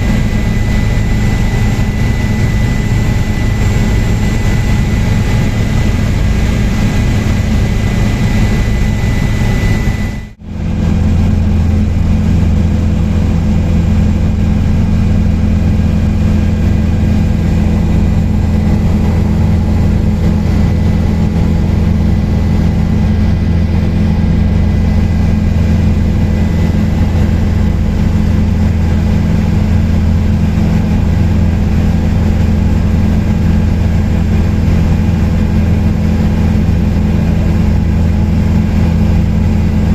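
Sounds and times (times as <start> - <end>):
helicopter rotor and engine drone: 0.0 - 39.9
high engine whine: 0.0 - 39.9.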